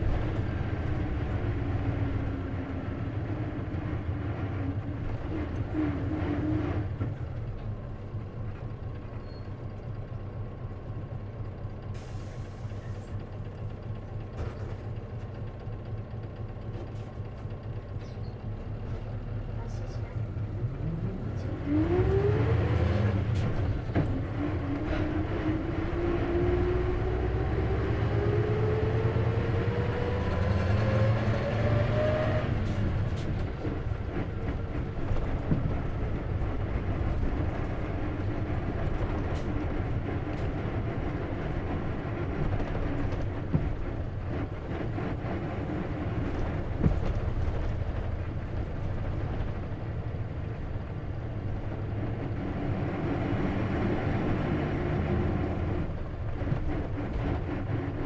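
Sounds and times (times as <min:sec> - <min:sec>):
bus pulling away: 0:00.0 - 0:58.0.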